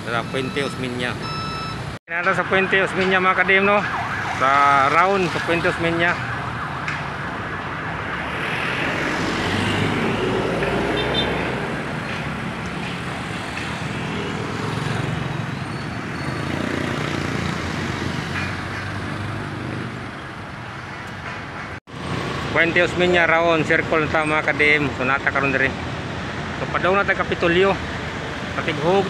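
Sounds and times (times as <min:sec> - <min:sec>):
city street traffic: 0:00.0 - 0:29.0.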